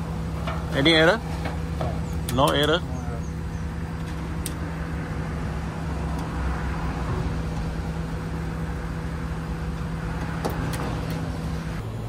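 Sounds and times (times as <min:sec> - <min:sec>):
air conditioning units humming: 0:00.0 - 0:12.0.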